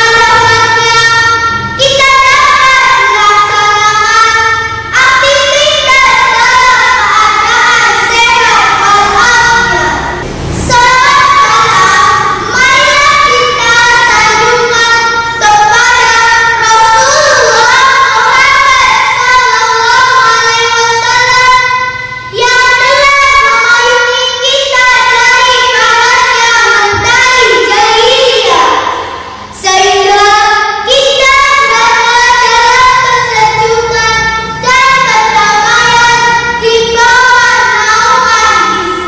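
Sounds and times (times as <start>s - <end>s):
girl singing: 0.0s - 39.0s.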